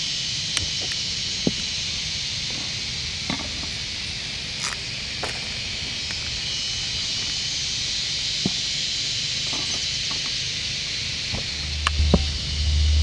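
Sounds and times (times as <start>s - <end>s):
camp stove hissing: 0.0s - 13.0s.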